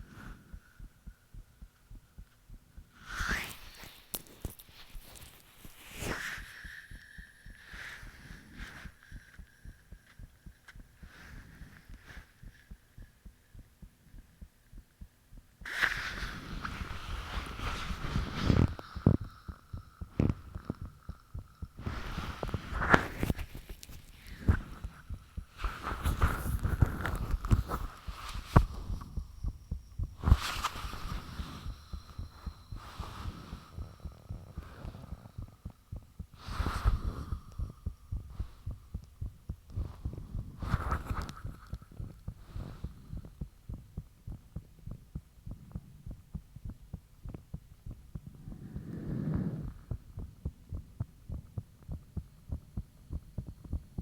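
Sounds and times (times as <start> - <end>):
faint hum: 0.0 - 54.0
heartbeat thumps: 0.0 - 54.0.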